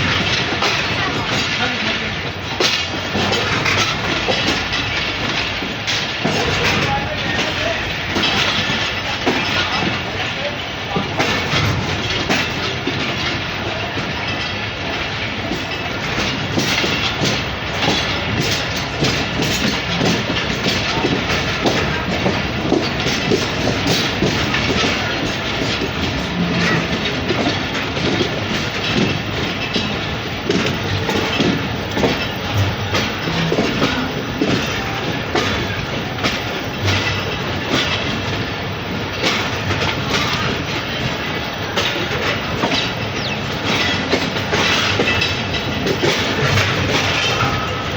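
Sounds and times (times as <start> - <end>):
train rumble: 0.0 - 47.9
train wheels clattering over rail joints: 0.0 - 47.9.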